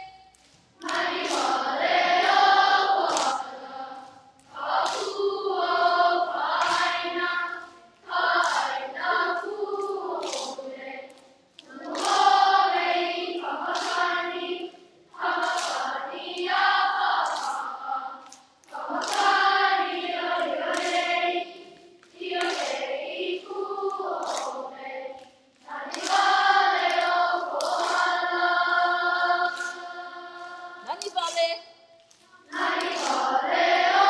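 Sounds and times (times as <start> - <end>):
children singing in chorus: 0.8 - 30.9, 32.4 - 34.0.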